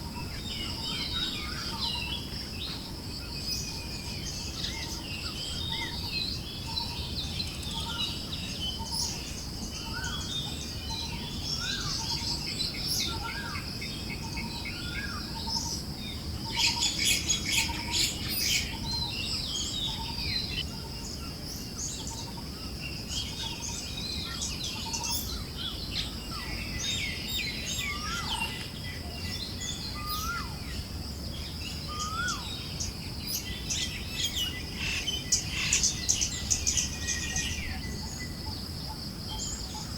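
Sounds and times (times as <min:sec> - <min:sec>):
birds chirping and singing: 0:00.0 - 0:39.9
high insect hum: 0:00.0 - 0:39.9.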